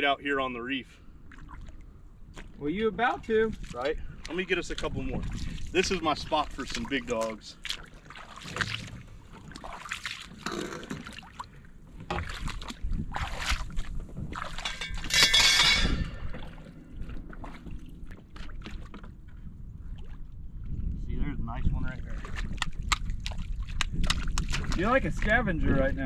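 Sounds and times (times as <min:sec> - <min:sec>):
wading splashes in water: 0:01.0 - 0:20.8, 0:21.9 - 0:25.8.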